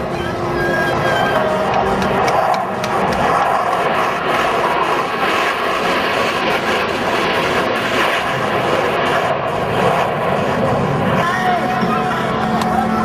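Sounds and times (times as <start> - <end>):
jet aircraft engine rush: 0.0 - 13.0.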